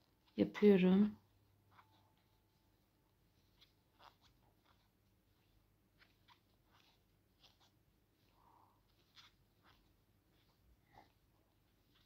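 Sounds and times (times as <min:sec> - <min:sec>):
crochet hook scratching yarn: 0:00.0 - 0:12.0.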